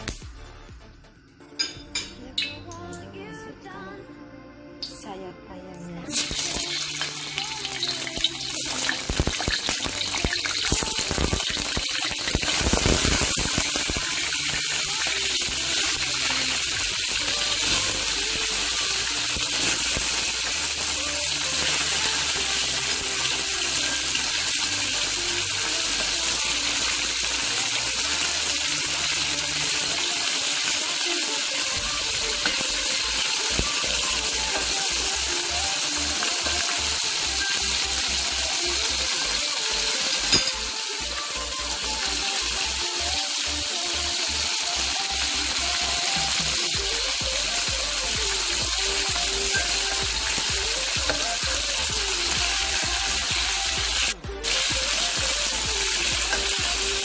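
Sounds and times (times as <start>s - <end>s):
chicken wings sizzling in oil: 6.1s - 57.0s.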